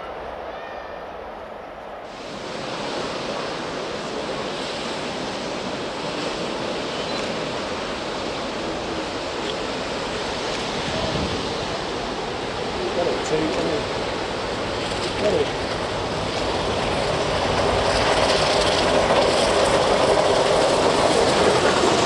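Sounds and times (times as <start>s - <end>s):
surf breaking on beach: 2.1s - 22.0s.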